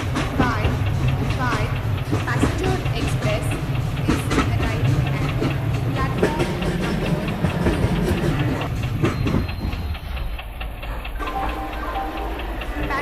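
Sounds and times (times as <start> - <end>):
train rumbling on track: 0.0 - 13.0
wheels clacking over rail joints: 0.0 - 13.0.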